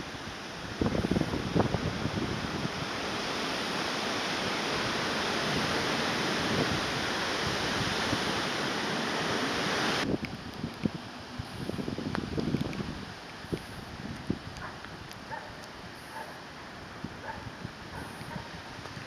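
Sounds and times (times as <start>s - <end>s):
river water rushing: 0.0s - 19.0s
wind buffeting microphone: 0.0s - 19.0s.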